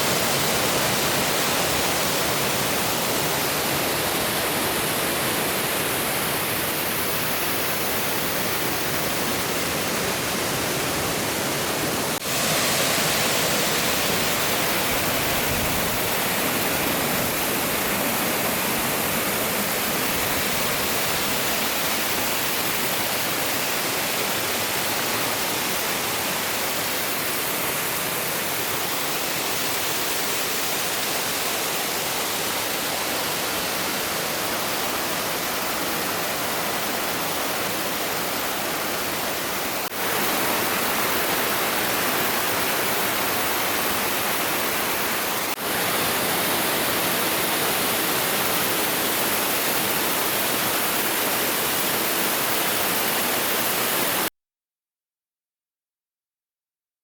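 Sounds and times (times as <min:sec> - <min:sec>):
stream water pouring over rocks: 0:00.0 - 0:54.3.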